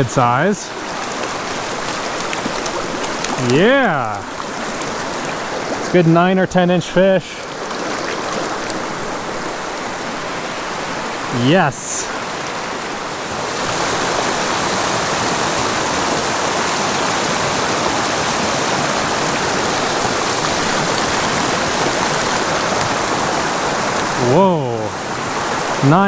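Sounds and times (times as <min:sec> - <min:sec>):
creek rushing over boulders: 0:00.0 - 0:26.0.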